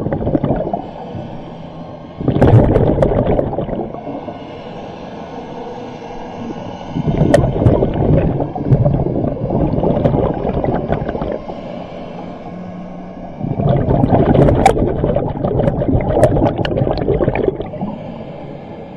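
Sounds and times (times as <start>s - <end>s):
underwater breath bubbles gurgling: 0.0s - 4.8s, 6.1s - 12.5s, 13.3s - 18.3s.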